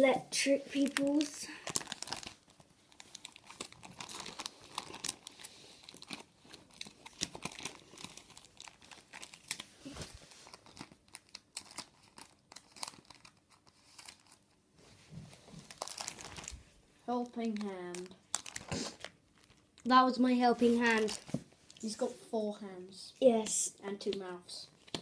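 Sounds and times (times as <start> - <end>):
plastic binder pages crinkling: 0.4 - 21.9, 23.3 - 25.0.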